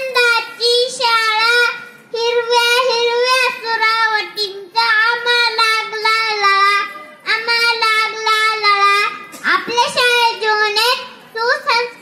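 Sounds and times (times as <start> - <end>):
boy singing: 0.0 - 12.0.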